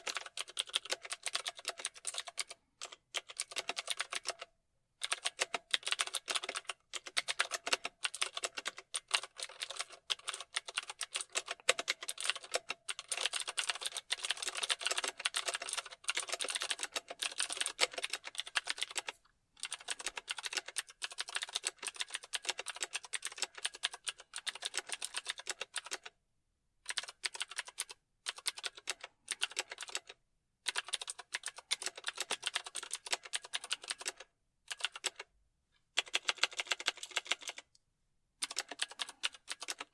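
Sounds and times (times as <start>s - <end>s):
fast typing on keyboard: 0.0s - 26.2s, 26.8s - 35.3s, 35.9s - 37.8s, 38.4s - 39.9s.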